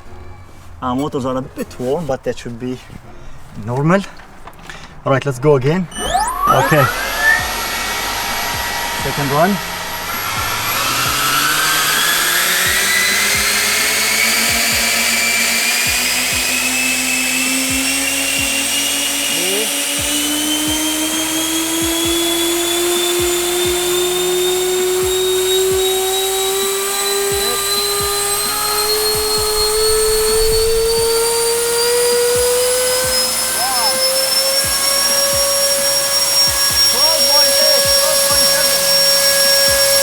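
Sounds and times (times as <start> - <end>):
electric ducted fans whining: 0.0 - 40.0.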